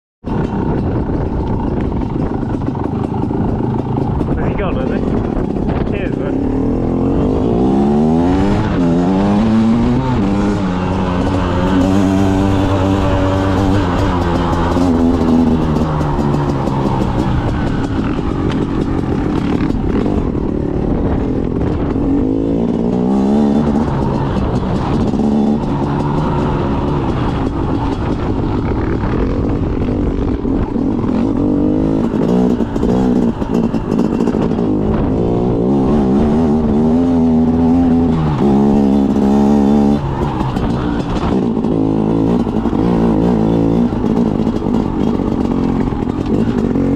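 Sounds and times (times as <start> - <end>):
motorcycle engine revving: 0.2 - 46.9.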